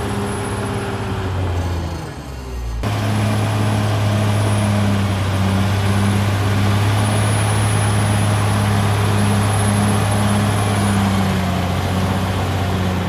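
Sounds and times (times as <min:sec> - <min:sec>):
diesel engine throbbing hum: 0:00.0 - 0:13.0.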